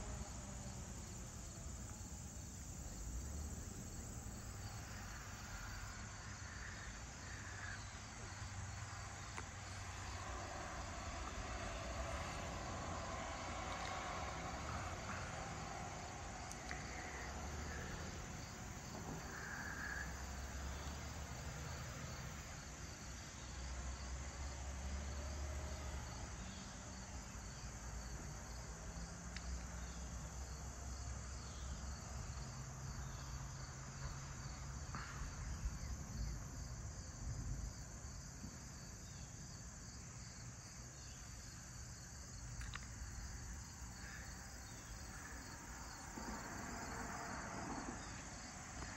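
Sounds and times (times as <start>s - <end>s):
crickets and insects chirring: 0.0s - 48.9s.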